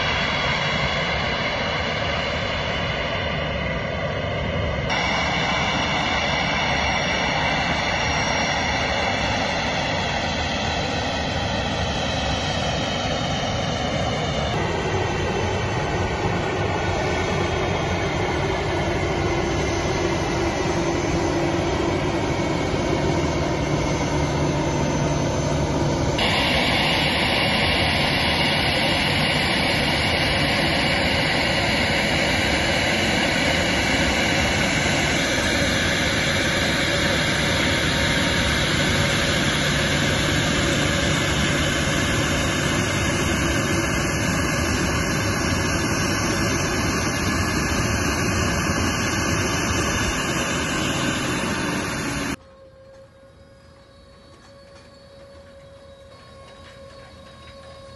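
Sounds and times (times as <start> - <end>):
jet engines taxiing: 0.0 - 57.9.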